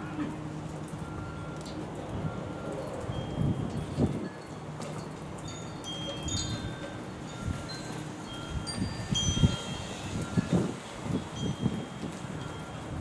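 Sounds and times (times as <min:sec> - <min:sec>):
wind chimes ringing: 0:00.7 - 0:13.0
wind rumbling on microphone: 0:01.0 - 0:13.0.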